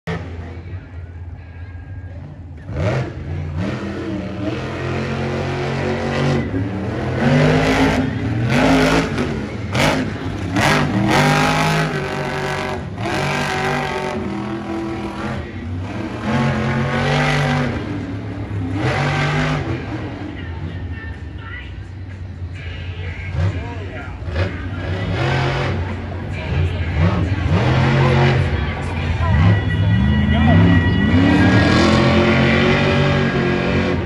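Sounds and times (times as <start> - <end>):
truck engine revving: 2.0 - 34.0.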